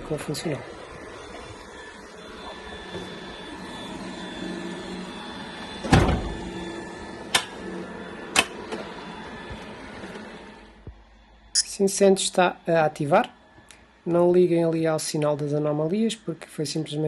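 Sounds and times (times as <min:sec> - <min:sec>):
pellet stove mechanical hum: 0:00.0 - 0:17.0.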